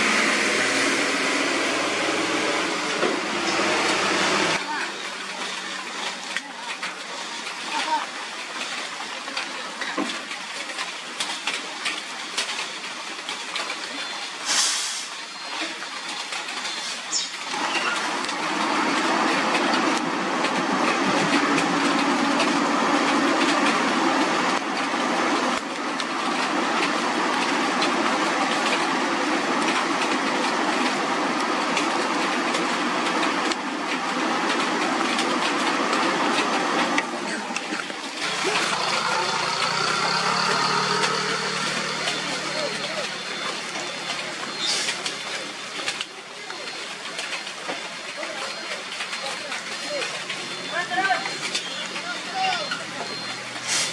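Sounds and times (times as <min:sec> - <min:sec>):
truck diesel engine under load: 0:00.0 - 0:08.0, 0:17.5 - 0:53.9.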